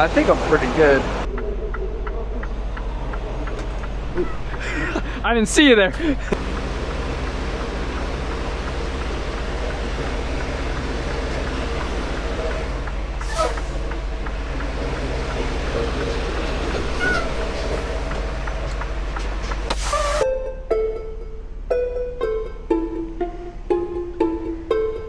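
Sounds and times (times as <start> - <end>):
truck diesel engine running: 0.0 - 20.2
brake squeal: 0.0 - 20.3.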